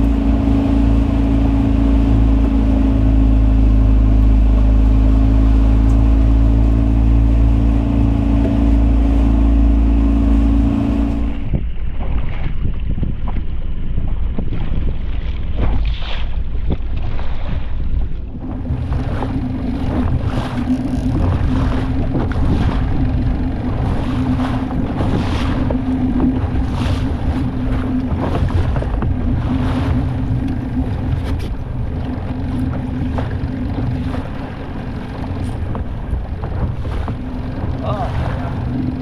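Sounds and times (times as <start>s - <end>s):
outboard motor running: 0.0s - 39.0s
water splashing against hull: 0.0s - 39.0s
wind buffeting microphone: 0.0s - 39.0s.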